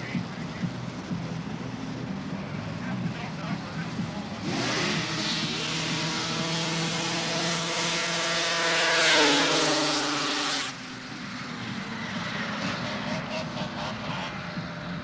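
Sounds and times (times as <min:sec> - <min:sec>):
snowmobile engine high whine: 0:00.0 - 0:15.0.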